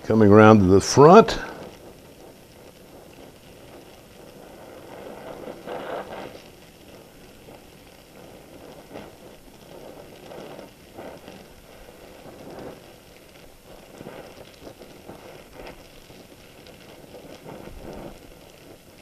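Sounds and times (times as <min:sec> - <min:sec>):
welding torch flame hissing: 0:00.0 - 0:19.0.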